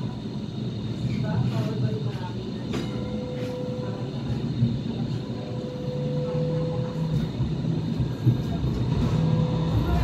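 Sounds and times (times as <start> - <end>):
light rail car rumbling: 0.0 - 10.0
thin steady whine: 0.0 - 10.0.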